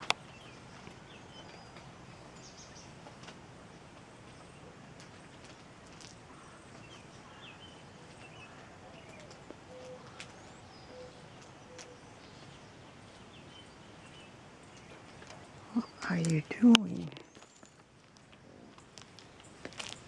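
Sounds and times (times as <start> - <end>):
background hiss: 0.0 - 20.0
wild birds chirping: 0.0 - 20.0.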